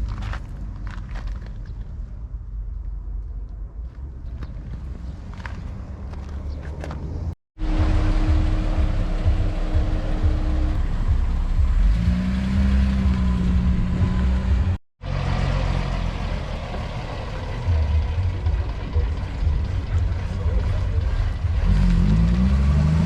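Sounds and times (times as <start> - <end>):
car engines rumbling: 0.0 - 23.0.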